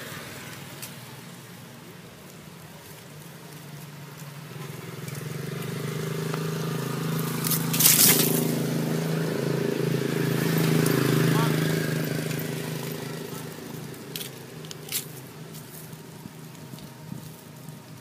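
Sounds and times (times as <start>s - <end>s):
loud crackling rustle: 0.0s - 18.0s
motor engine running: 3.4s - 18.0s.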